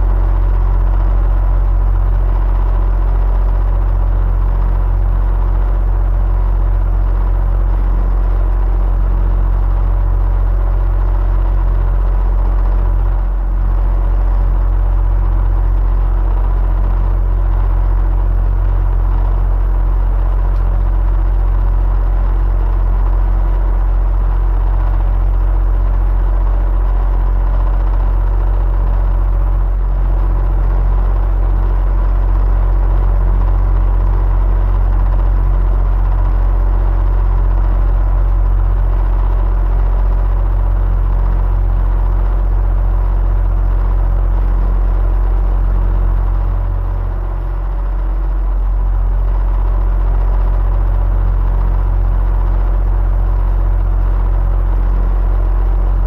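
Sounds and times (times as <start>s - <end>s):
electric fan running: 0.0s - 56.0s
fan motor whine: 0.0s - 56.0s.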